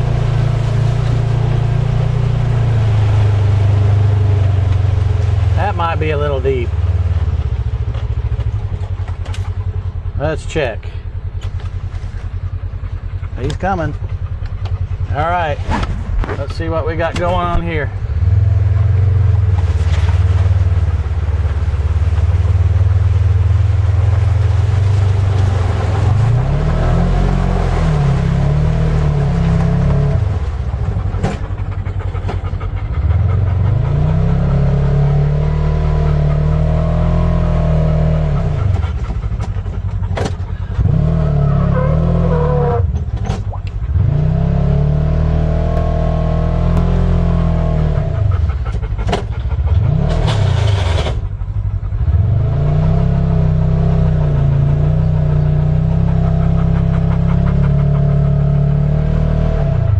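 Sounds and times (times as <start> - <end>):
utv engine revving: 0.0 - 59.9.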